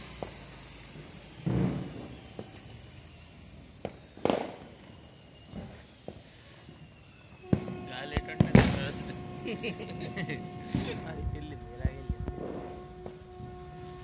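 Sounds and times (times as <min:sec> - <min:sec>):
firecrackers popping and banging: 0:00.0 - 0:03.0, 0:03.7 - 0:06.8, 0:07.4 - 0:14.0.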